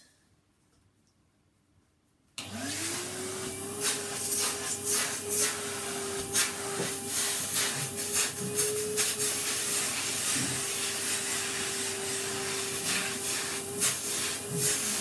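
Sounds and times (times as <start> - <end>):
vacuum cleaner running: 2.4 - 15.0.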